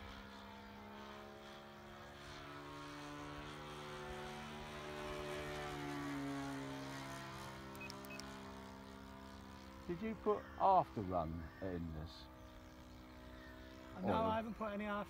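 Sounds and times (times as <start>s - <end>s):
model aircraft engine flying past: 0.0s - 15.0s.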